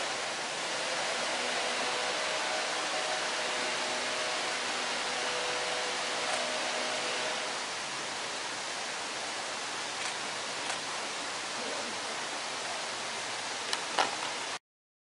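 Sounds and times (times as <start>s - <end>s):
outdoor background hiss: 0.0s - 14.6s.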